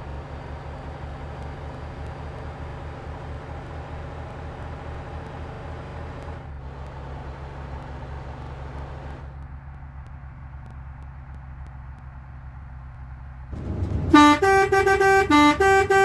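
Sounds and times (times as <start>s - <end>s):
large vehicle engine humming: 0.0s - 16.0s.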